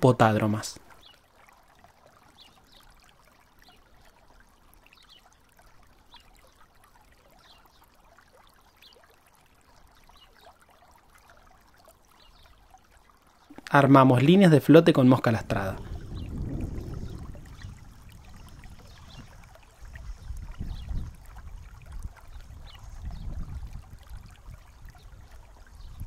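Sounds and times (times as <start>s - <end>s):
river trickling and gurgling: 0.0s - 26.0s.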